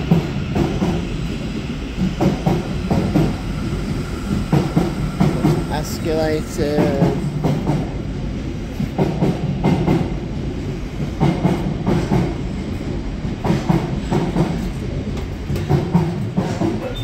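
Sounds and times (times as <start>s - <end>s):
heavy train knocks: 0.0s - 17.0s
train rumbling: 0.0s - 17.0s.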